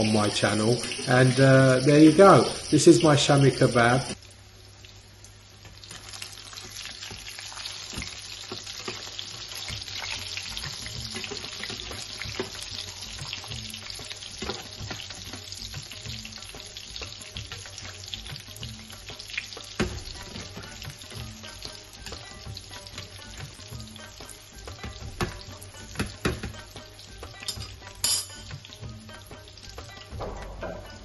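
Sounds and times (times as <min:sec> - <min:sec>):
patties sizzling in hot oil: 0:00.0 - 0:31.0.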